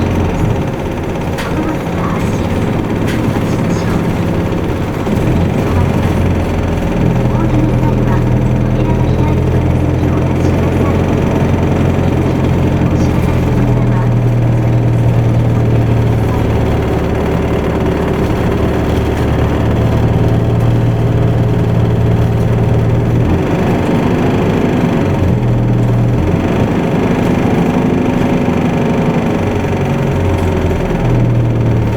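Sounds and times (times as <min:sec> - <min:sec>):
bus diesel engine running: 0:00.0 - 0:31.9
road noise: 0:00.0 - 0:31.9.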